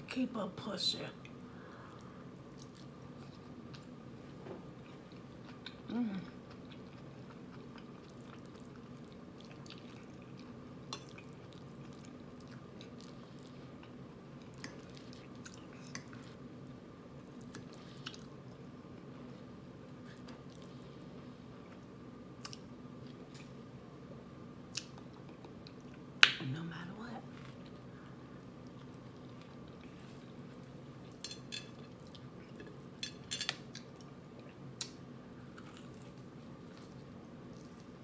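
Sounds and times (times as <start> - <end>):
steady low hum: 0.0 - 38.0
person chewing food: 1.8 - 23.6, 24.7 - 26.0, 27.4 - 38.0.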